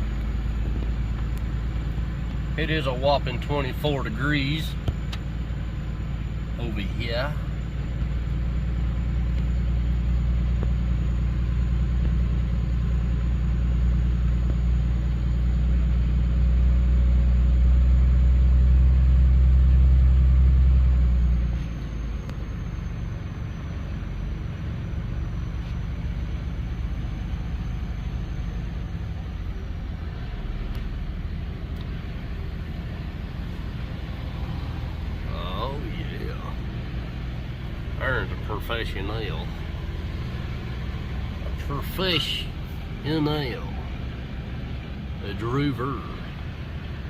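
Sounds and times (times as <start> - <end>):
truck engine rumble from cab: 0.0 - 47.0.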